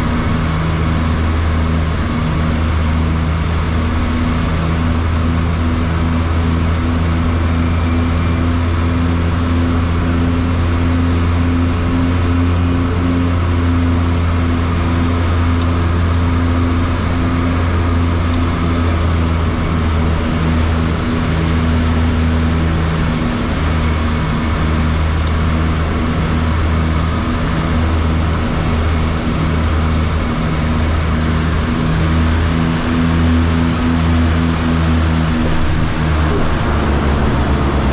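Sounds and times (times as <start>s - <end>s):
engine drone inside craft: 0.0s - 37.9s.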